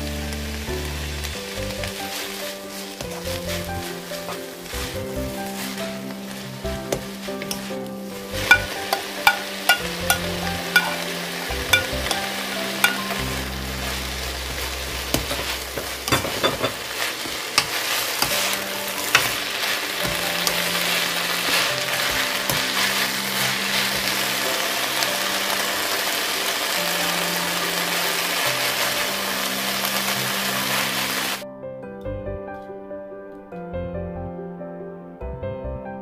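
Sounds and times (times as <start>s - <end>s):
vegetables sizzling in a frying pan: 0.0s - 31.4s.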